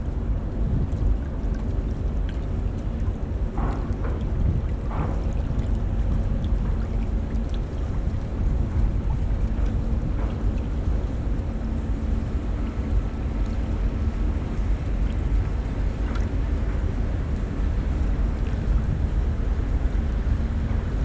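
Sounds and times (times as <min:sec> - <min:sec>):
faint steady hum: 0:00.0 - 0:21.0
wind buffeting microphone: 0:00.0 - 0:21.0.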